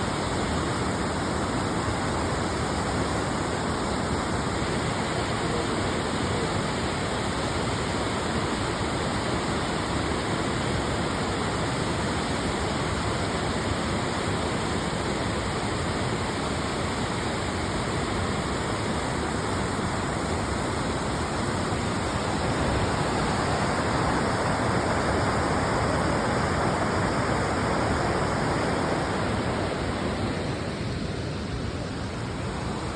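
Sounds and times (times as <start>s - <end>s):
rushing water: 0.0s - 32.9s.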